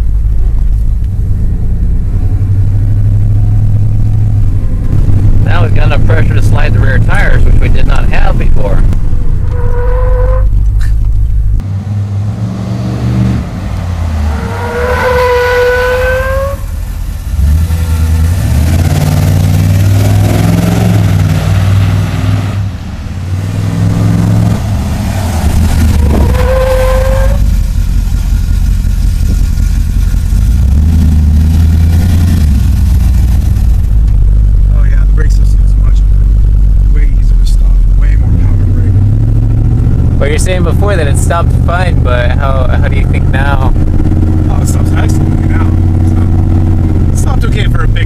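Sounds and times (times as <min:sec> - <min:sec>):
pickup engine revving: 0:00.0 - 0:48.0.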